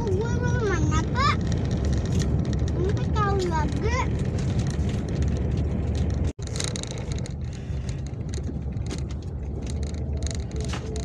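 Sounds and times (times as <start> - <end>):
vehicle driving on road: 0.0 - 11.0.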